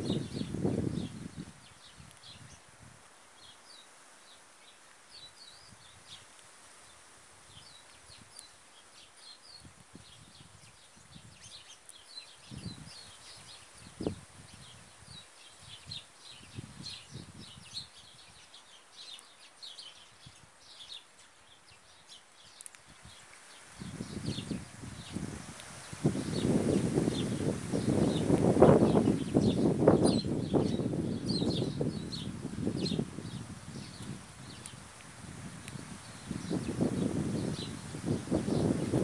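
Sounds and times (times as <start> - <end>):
small birds chirping: 0.0 - 2.7, 3.3 - 39.0.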